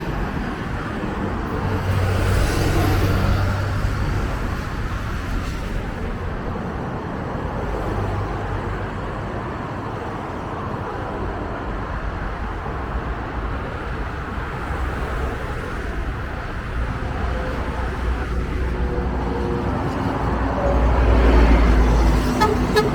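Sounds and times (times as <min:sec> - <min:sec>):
bus engine humming: 0:00.0 - 0:22.9
street traffic noise: 0:00.0 - 0:22.9.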